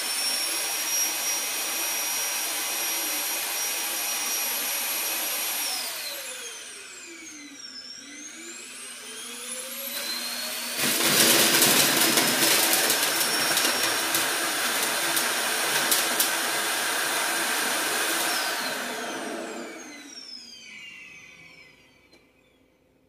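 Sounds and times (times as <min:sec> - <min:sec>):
suction motor whine: 0:00.0 - 0:22.7.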